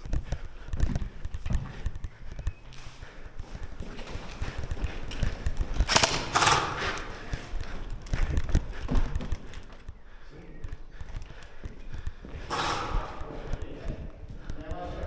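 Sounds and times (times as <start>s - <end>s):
gear knocking: 0.0s - 15.0s.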